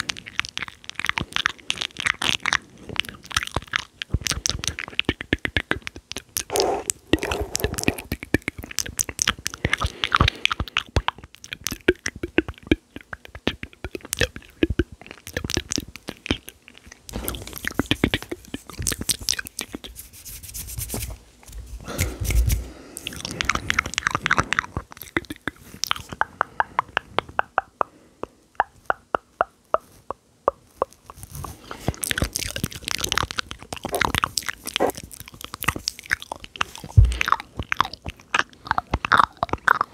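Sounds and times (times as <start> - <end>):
lip and tongue clicks: 0.0 - 21.0, 21.8 - 39.9.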